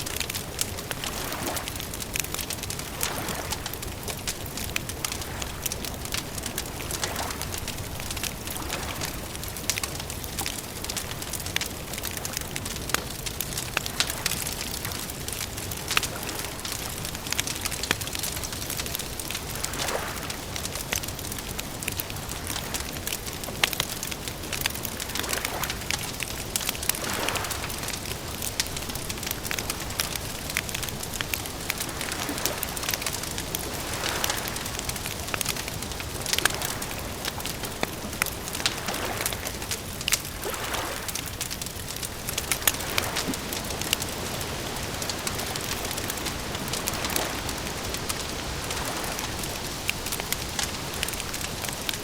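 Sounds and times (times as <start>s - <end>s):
campfire crackling: 0.0s - 52.0s.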